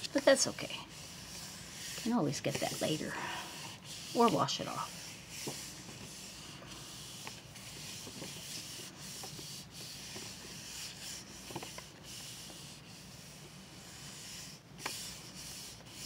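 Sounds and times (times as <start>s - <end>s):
hands rubbing paper: 0.0s - 16.0s.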